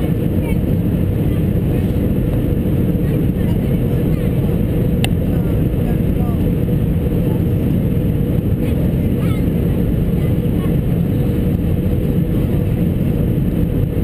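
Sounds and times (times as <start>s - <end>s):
jet engines and airflow rumble: 0.0s - 14.0s
steady cabin hum: 0.0s - 14.0s.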